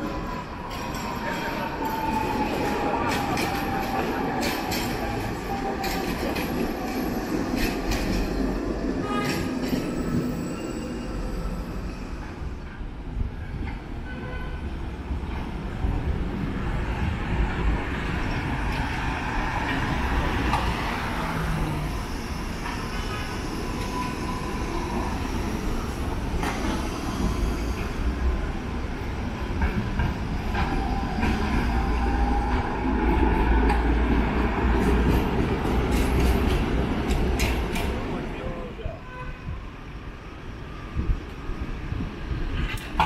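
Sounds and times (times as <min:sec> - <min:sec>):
tram rolling in with whine: 0:00.0 - 0:43.0
trams and cars rumbling: 0:00.0 - 0:43.0.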